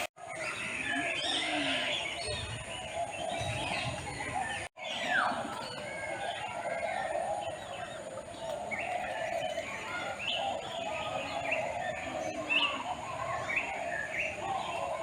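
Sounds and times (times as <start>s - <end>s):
many birds calling: 0.0s - 15.0s.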